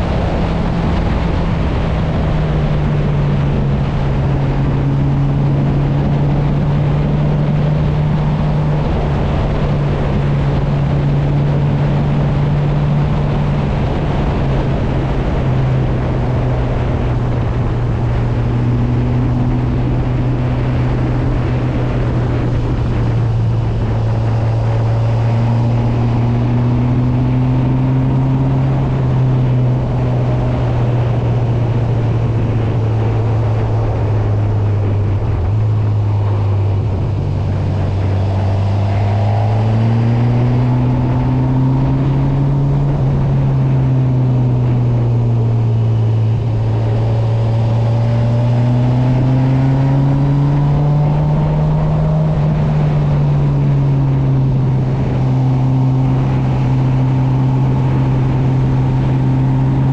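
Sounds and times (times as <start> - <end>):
constant rushing noise: 0.0 - 59.9
motorcycle engine running: 0.0 - 59.9.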